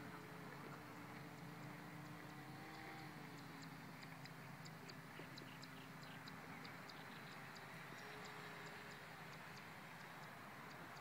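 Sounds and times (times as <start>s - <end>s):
distant model plane motor drone: 0.0s - 11.0s.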